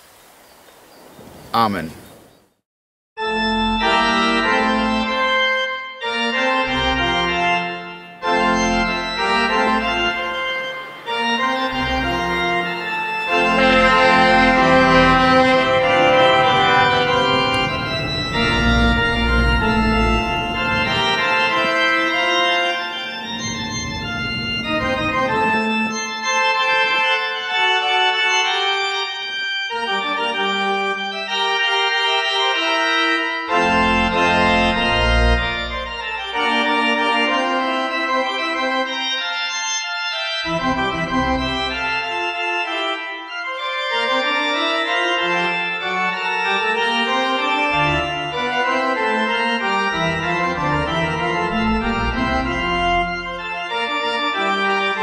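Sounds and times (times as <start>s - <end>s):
organ playing chords: 3.2s - 55.0s.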